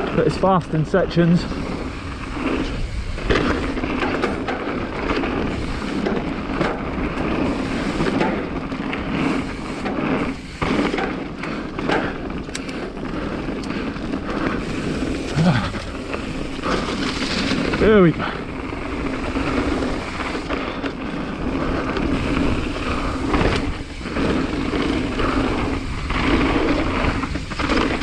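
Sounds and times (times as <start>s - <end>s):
bike rattling over bumps: 0.0s - 28.0s
tyre roar on dirt: 0.0s - 28.0s
wind buffeting microphone: 0.0s - 28.0s.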